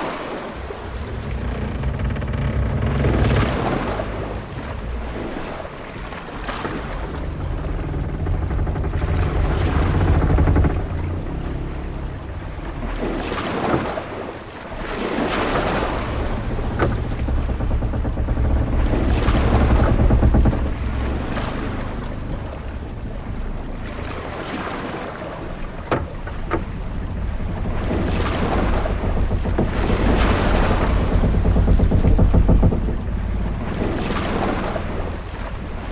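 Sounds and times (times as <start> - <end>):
waves washing: 0.0 - 35.9
deep rumble of wind: 0.3 - 35.9
short knocks: 0.6 - 35.9.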